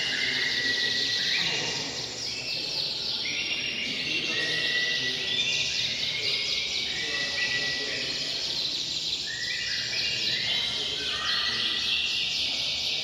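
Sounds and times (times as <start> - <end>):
canaries singing: 0.0 - 13.0.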